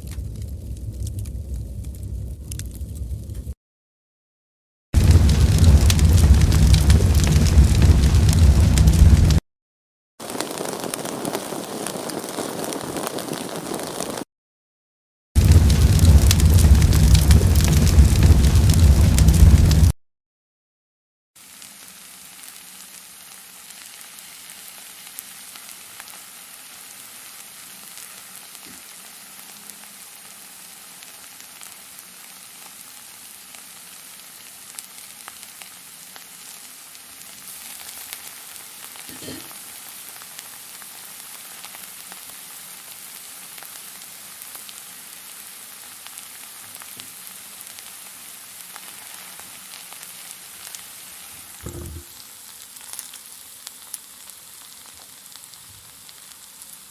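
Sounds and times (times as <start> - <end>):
fire hissing and crackling: 0.0 - 3.6, 5.0 - 9.4, 10.2 - 14.3, 15.4 - 20.0, 21.4 - 56.9.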